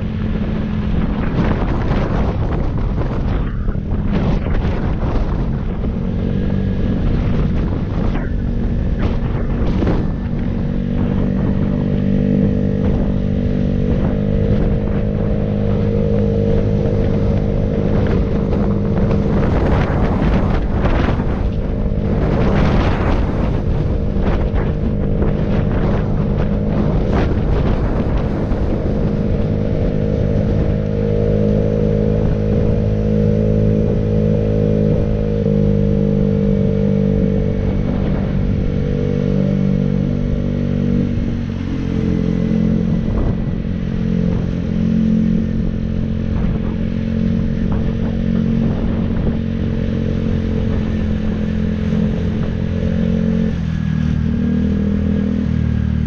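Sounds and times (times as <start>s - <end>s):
wind rushing: 0.0s - 55.6s
road noise: 0.0s - 56.0s
vehicle engine running: 0.0s - 56.0s.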